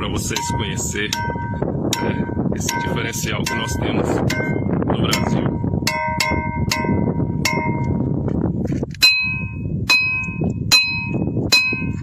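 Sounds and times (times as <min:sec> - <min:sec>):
sledgehammer striking ringing rocks: 0:00.2 - 0:08.0, 0:09.0 - 0:12.0.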